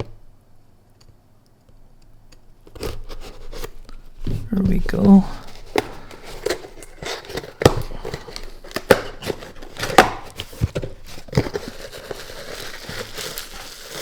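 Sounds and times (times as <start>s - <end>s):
packaging rustling and scraping: 2.6s - 14.0s.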